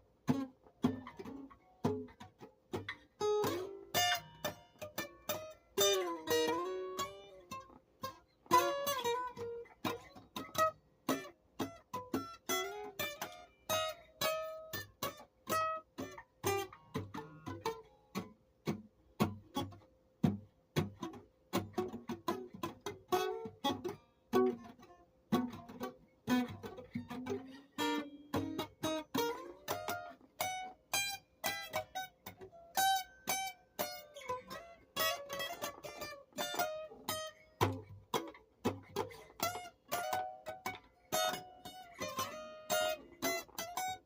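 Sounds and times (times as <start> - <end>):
plucked guitar notes: 0.0 - 44.0.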